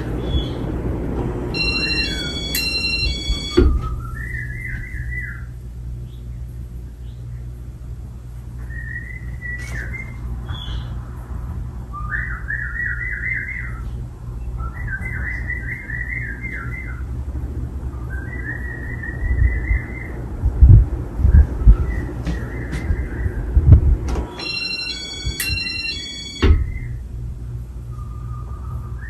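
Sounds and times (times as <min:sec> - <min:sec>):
ceiling fan humming: 0:00.0 - 0:29.0.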